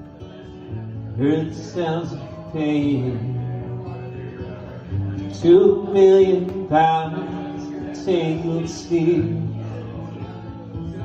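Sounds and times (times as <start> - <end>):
acoustic guitar strumming: 0.0 - 11.0
man singing long notes: 0.2 - 11.0.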